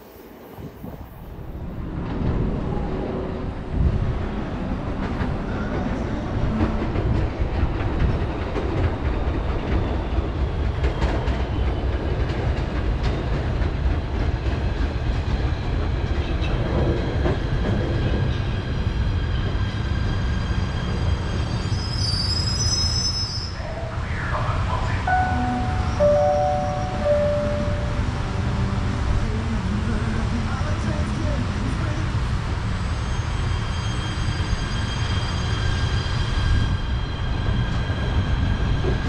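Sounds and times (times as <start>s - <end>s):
train rumbling along tracks: 0.0s - 39.0s.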